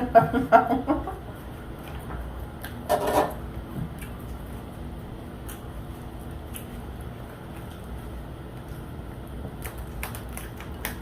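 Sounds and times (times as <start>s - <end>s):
eating and handling noises: 0.0s - 11.0s
room heater humming: 0.0s - 11.0s.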